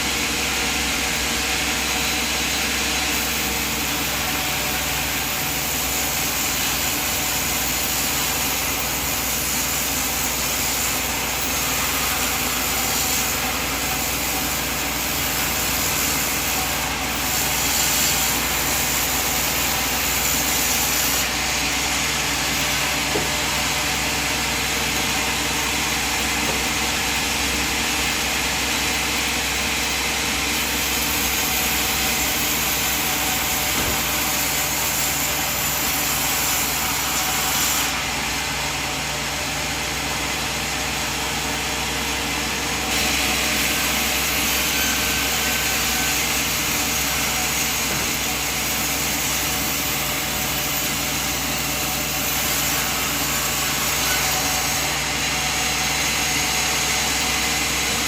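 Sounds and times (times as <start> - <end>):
sawmill machine droning: 0.0 - 58.0.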